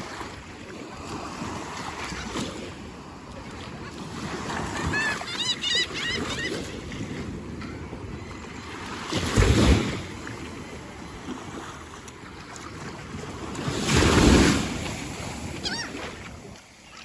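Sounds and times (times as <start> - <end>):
wind on microphone: 0.0 - 16.6
sea surf washing: 0.0 - 17.0.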